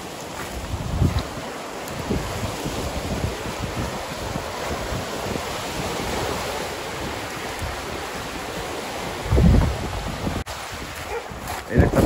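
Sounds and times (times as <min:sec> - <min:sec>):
waves washing over pebbly shore: 0:00.0 - 0:12.0
wind buffeting microphone: 0:00.0 - 0:12.0.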